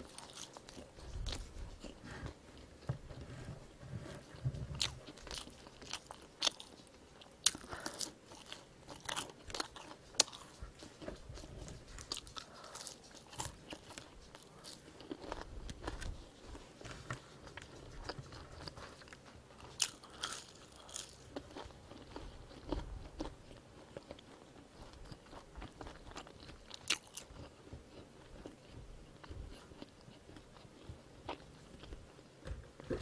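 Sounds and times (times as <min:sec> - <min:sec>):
chewing french fry: 0:00.0 - 0:33.0.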